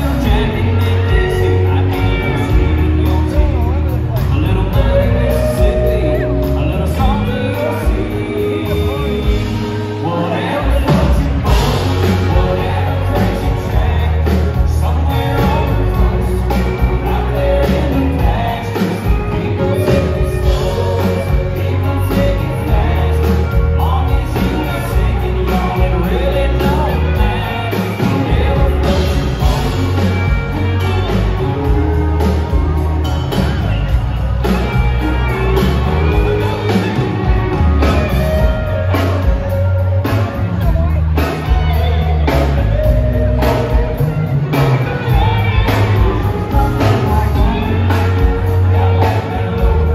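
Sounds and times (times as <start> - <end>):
drum kit beat: 0.0 - 10.0, 10.8 - 49.9
people singing: 0.0 - 39.8, 42.3 - 49.9
electric guitars: 0.0 - 49.9.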